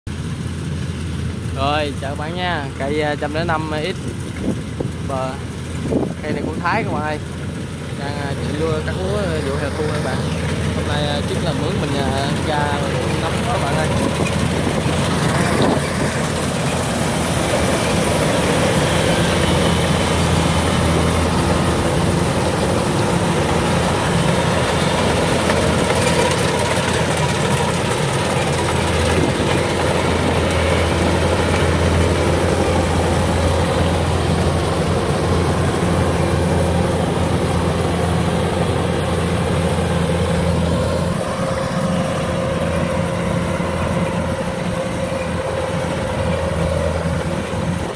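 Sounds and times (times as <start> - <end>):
diesel engine hum: 0.1 - 47.9
threshing machinery clattering: 3.8 - 47.9.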